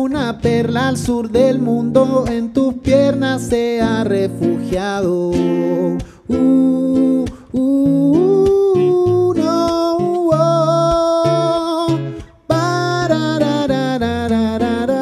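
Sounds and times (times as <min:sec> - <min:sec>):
man singing wordless melody: 0:00.0 - 0:15.0
nylon-string classical guitar: 0:00.0 - 0:15.0.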